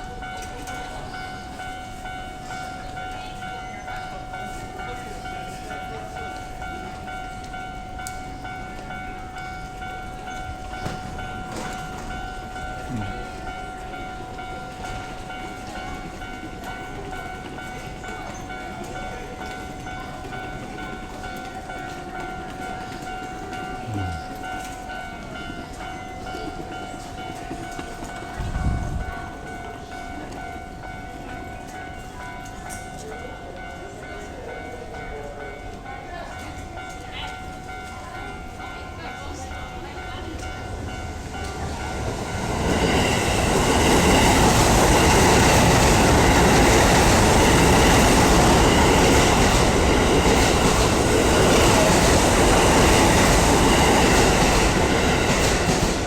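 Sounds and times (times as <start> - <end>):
level crossing warning bell: 0.0 - 56.0
trains passing: 0.0 - 56.0.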